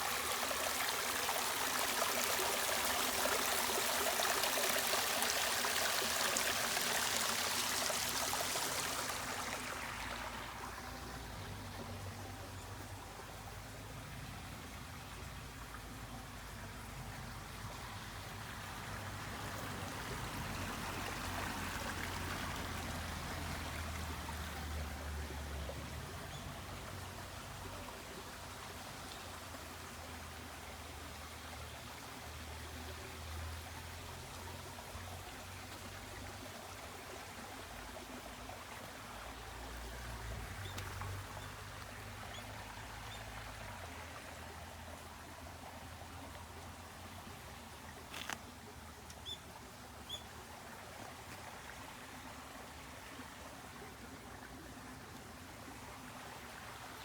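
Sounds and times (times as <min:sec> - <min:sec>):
stream water babbling: 0:00.0 - 0:57.0.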